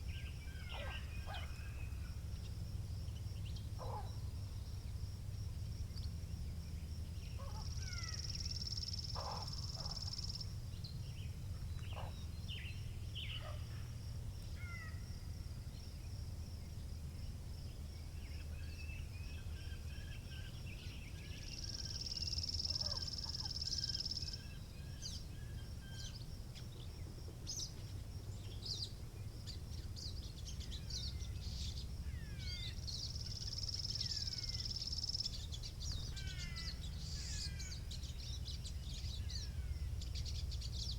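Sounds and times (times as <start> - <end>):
birds singing and calling: 0.0 - 4.1, 6.0 - 13.7, 18.2 - 40.9.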